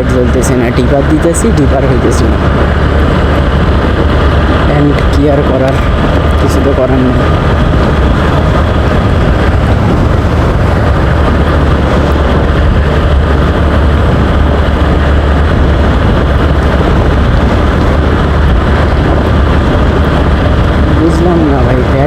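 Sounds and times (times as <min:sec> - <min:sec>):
motorcycle engine rumble: 0:00.0 - 0:22.0
wind noise: 0:00.0 - 0:22.0.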